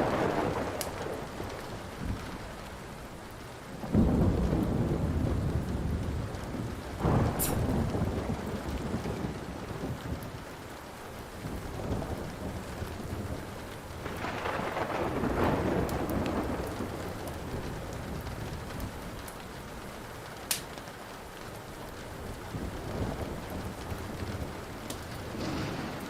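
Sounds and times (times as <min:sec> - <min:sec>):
thunder rumbling: 0:00.0 - 0:20.3, 0:22.0 - 0:26.0
steady rain: 0:00.0 - 0:26.0
wood fire crackling: 0:00.0 - 0:26.0.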